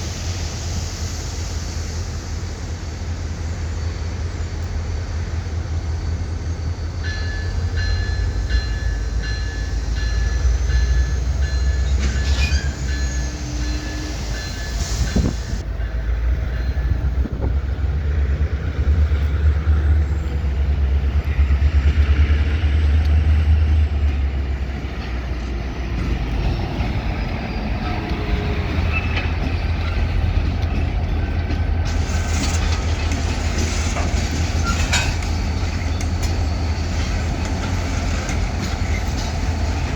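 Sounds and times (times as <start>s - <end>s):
diesel locomotive engine rumble: 0.0s - 39.9s
rolling rail cars clacking: 0.0s - 39.9s.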